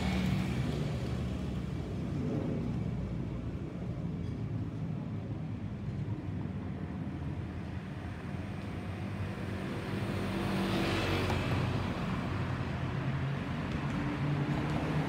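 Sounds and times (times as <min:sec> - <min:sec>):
jet engines passing overhead: 0:00.0 - 0:12.6.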